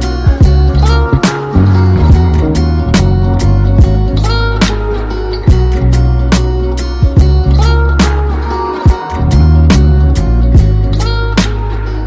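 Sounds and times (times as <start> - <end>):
music with beat bass and guitar: 0.0 - 12.0.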